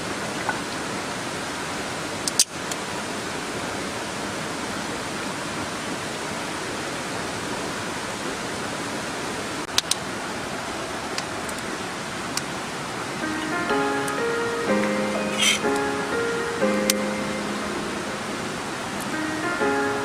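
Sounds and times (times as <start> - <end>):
stream flowing: 2.8 - 20.0.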